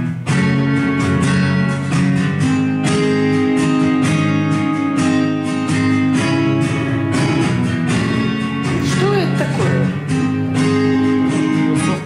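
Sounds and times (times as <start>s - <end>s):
pop backing track: 0.0s - 12.0s
strummed acoustic guitar: 0.0s - 12.0s.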